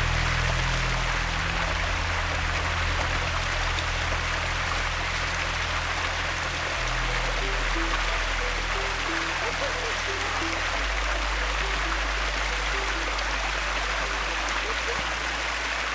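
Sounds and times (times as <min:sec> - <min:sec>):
rushing stream and waterfall: 0:00.0 - 0:15.9.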